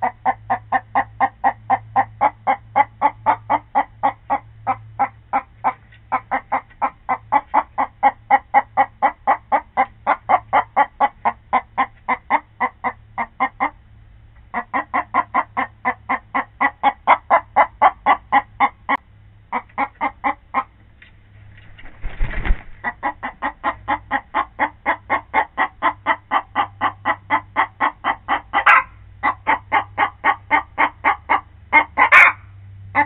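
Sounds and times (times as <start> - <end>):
hen clucking: 0.0 - 20.9, 21.7 - 33.0.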